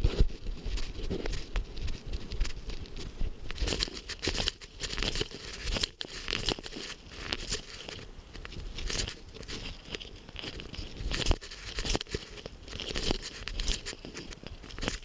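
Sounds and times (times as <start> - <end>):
brush rustling against camera: 0.0 - 15.0
twigs snapping: 0.0 - 15.0.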